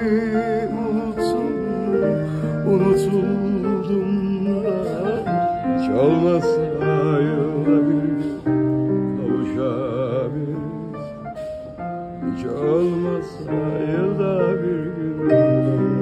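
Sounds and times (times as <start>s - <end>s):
grand piano: 0.0s - 16.0s
man singing with vibrato: 0.0s - 16.0s.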